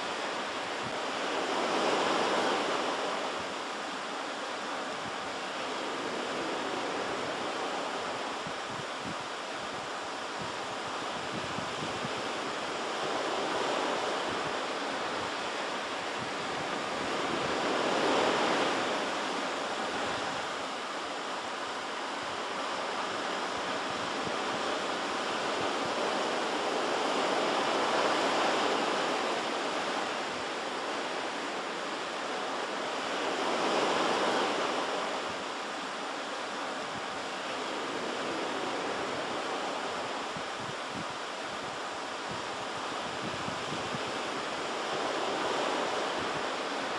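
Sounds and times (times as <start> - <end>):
ocean surf breaking on shore: 0.0 - 46.9.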